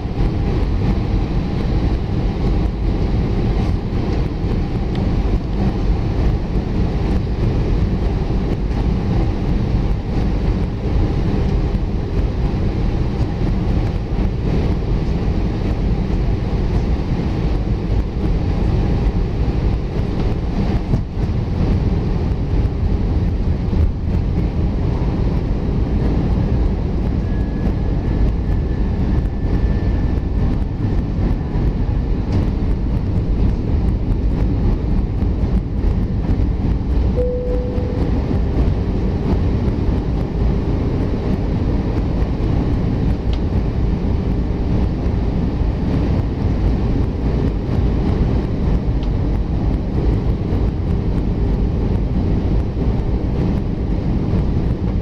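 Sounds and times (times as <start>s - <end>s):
faint steady whine: 0.0s - 55.0s
jet engine cabin rumble: 0.0s - 55.0s.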